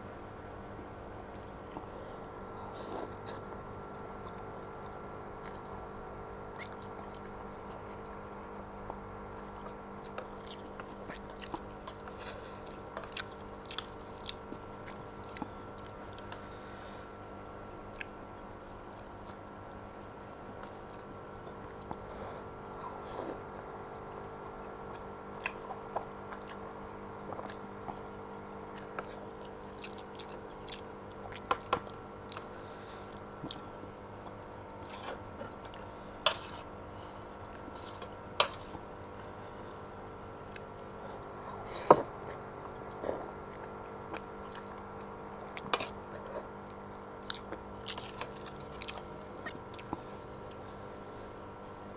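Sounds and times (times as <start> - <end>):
steady background hum: 0.0 - 51.9
person chewing noodles: 1.4 - 51.9.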